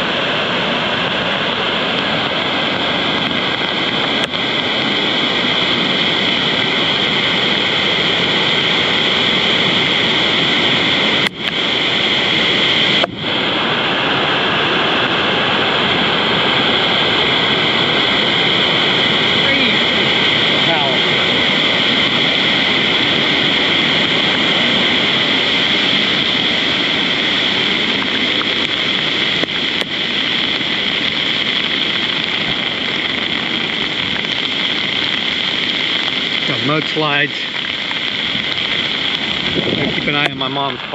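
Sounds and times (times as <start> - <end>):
floodwater roaring: 0.0 - 40.9.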